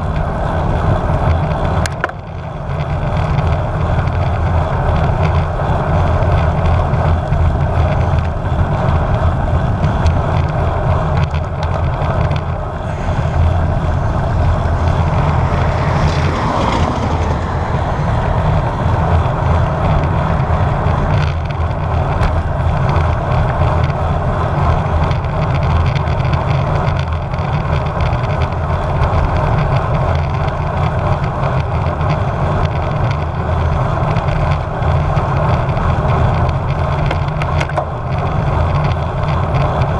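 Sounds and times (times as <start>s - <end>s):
tyre and road noise: 0.0s - 39.9s
wind rushing over microphone: 0.0s - 39.9s.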